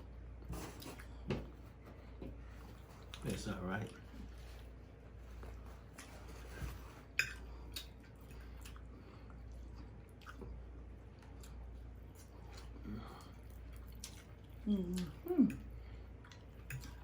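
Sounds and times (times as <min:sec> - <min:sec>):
quiet chewing: 0:00.8 - 0:17.0.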